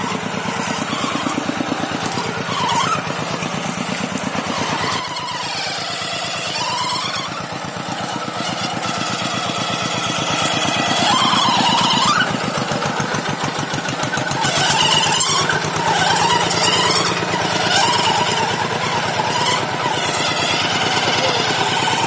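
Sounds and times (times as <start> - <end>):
tractor engine running: 0.0 - 22.0
wavering high squeals: 0.0 - 22.0.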